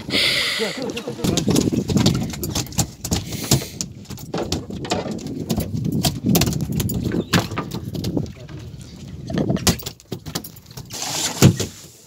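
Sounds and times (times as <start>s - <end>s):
fish thrashing on boat deck: 0.0s - 11.9s.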